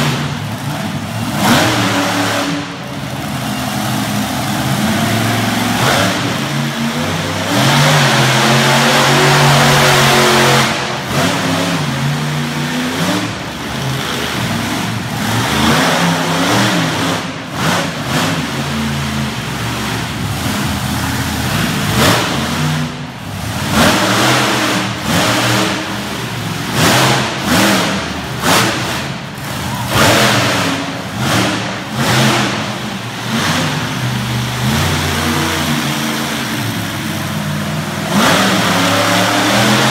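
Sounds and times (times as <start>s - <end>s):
monster truck engine revving: 0.0s - 39.9s.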